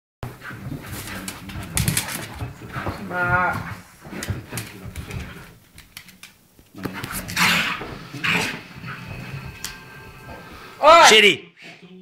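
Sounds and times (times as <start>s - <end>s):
dog scrambling and scuffling: 0.3s - 10.5s.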